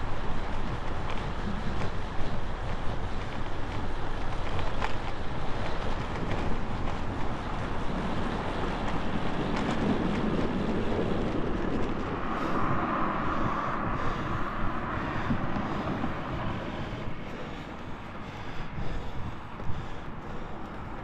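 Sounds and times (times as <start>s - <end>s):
wind buffeting microphone: 0.0s - 21.0s
faint bike clicks: 0.2s - 12.5s, 15.2s - 21.0s.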